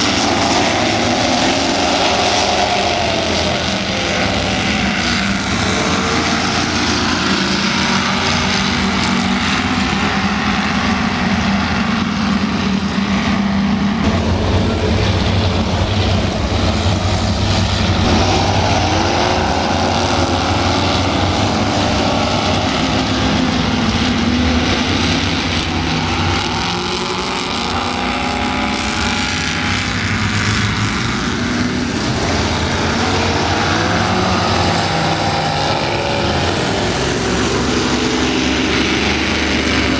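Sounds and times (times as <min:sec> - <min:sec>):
powerboats racing past: 0:00.0 - 0:39.9.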